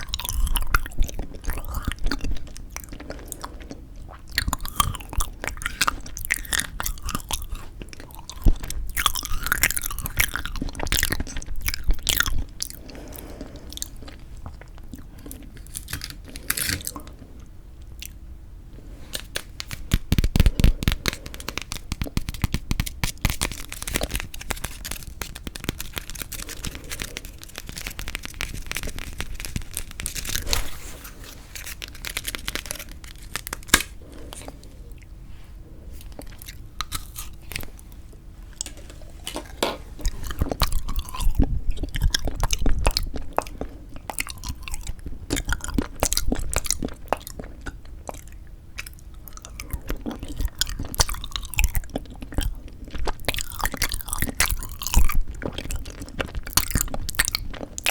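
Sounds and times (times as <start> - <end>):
crunching and chewing: 0.0 - 18.2, 18.8 - 57.9.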